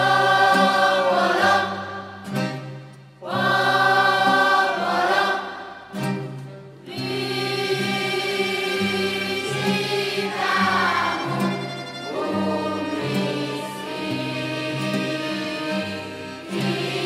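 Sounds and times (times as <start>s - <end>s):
choir singing: 0.0s - 2.6s, 3.2s - 17.0s.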